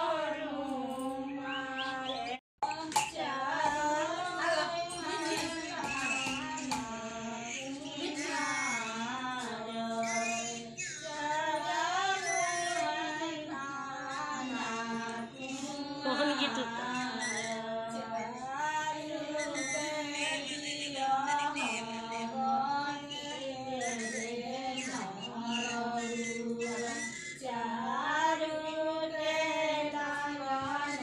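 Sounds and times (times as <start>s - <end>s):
women singing folk song: 0.0s - 31.0s.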